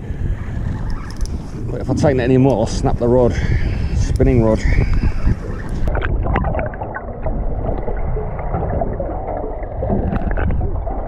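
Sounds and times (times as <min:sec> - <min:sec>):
muffled underwater water wash: 0:00.0 - 0:11.0
underwater clicks and gurgles: 0:00.3 - 0:11.0.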